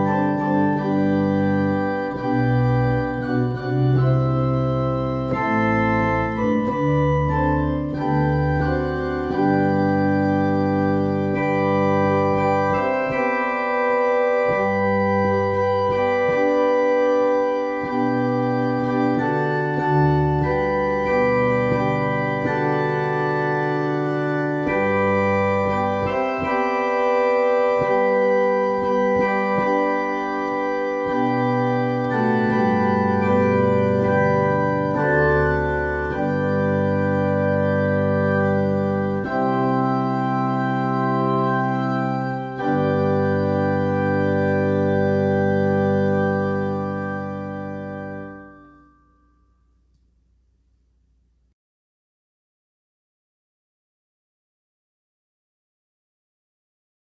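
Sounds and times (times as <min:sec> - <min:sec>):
organ playing a hymn: 0:00.0 - 0:49.0.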